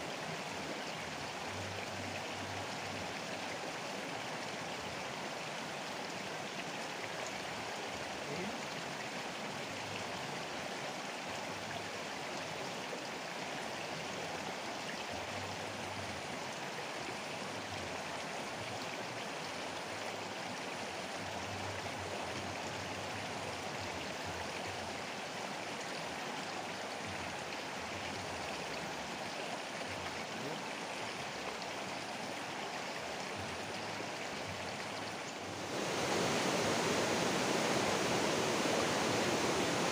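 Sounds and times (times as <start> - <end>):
fast-flowing river: 0.0 - 39.9.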